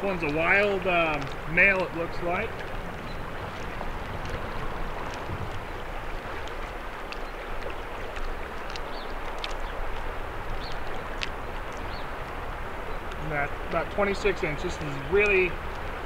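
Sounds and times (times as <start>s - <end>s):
river current rushing: 0.0s - 16.0s
water splashes and drips: 0.0s - 16.0s.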